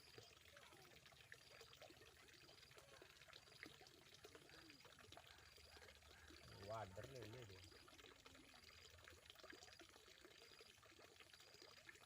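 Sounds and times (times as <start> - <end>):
water trickling and gurgling: 0.0 - 12.0.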